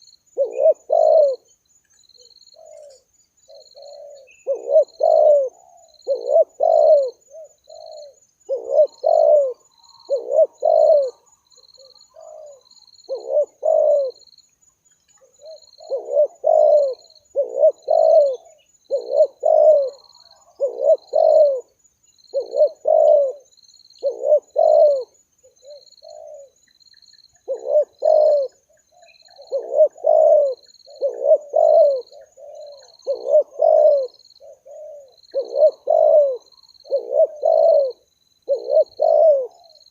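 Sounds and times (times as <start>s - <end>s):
doves cooing: 0.0s - 1.5s, 2.2s - 14.3s, 15.1s - 26.6s, 27.3s - 39.9s
faint high chirping: 0.0s - 39.9s.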